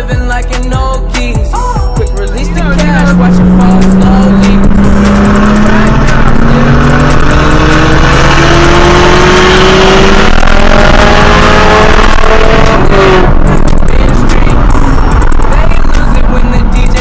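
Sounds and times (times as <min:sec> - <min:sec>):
car engine accelerating: 0:02.3 - 0:17.0
road and wind noise: 0:02.4 - 0:17.0.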